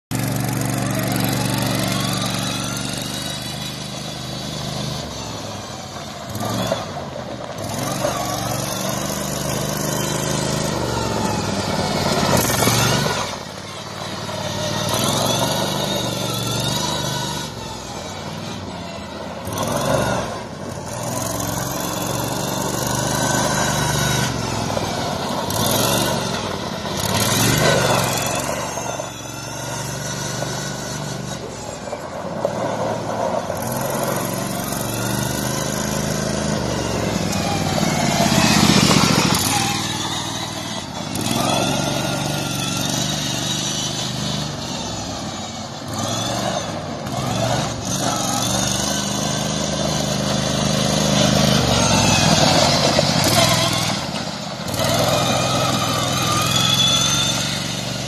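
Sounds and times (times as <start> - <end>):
lawn tractor engine revving: 0.0 - 58.0.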